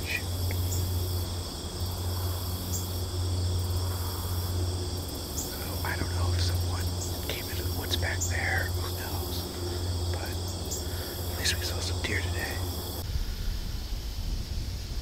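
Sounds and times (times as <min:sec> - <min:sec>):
crickets and insects chirping: 0:00.0 - 0:15.0
low steady rumble: 0:00.0 - 0:15.0.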